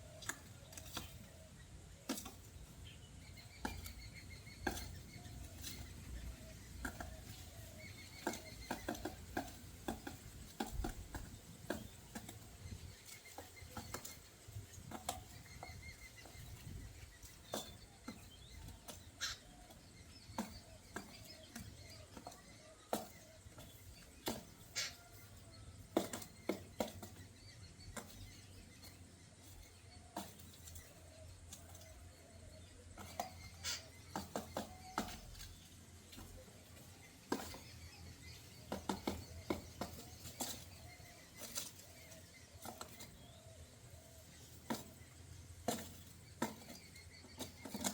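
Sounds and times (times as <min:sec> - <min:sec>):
faint bird chirps: 0:00.0 - 0:47.9.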